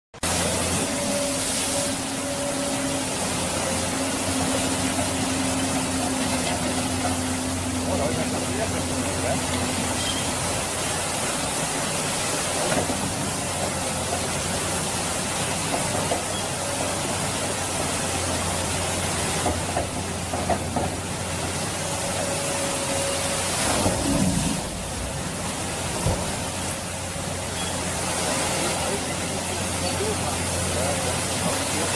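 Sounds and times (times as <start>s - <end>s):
excavator diesel engine hum: 0.2s - 31.9s
fast river rushing: 0.2s - 31.9s.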